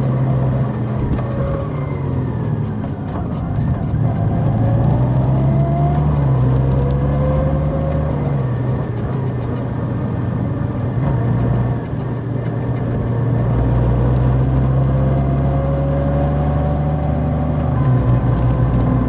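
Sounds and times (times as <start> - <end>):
motorcycle engine droning: 0.0 - 19.0
road and wind noise: 0.0 - 19.0.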